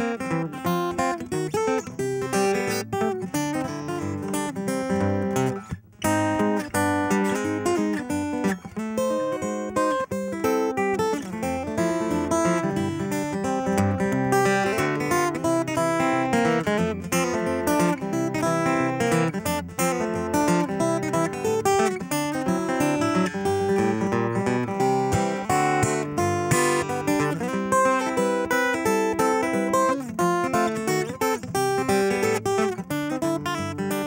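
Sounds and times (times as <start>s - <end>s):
fingerpicked acoustic guitar: 0.0s - 34.0s.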